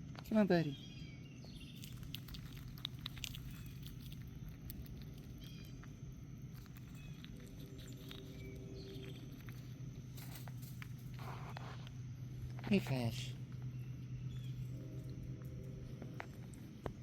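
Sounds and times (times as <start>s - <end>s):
chipmunk ticks and patter: 0.0s - 17.0s
steady low hum: 0.0s - 17.0s.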